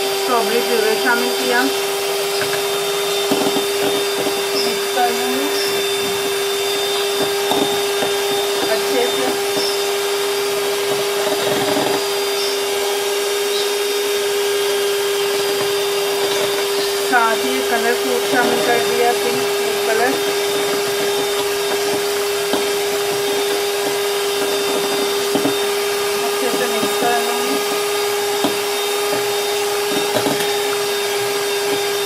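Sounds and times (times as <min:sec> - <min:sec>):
electric mixer whisking batter: 0:00.0 - 0:32.0.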